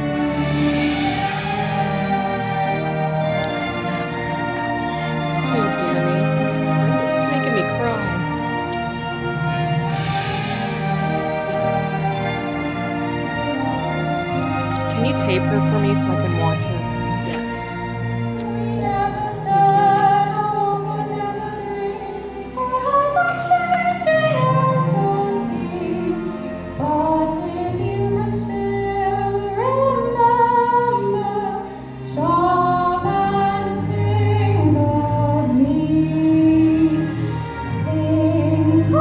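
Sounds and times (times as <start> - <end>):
sustained accompaniment: 0.0 - 39.0.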